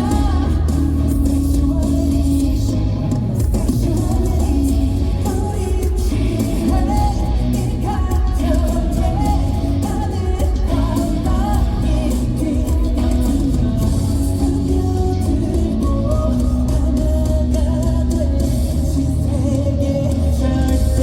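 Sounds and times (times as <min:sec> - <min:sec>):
live band with guitar and bass: 0:00.0 - 0:21.0
man singing: 0:00.0 - 0:21.0.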